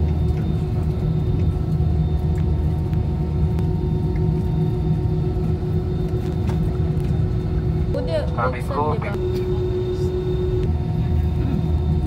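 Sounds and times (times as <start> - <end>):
jet engine rumble in cabin: 0.0 - 12.0
jet engine whining tones: 0.0 - 12.0.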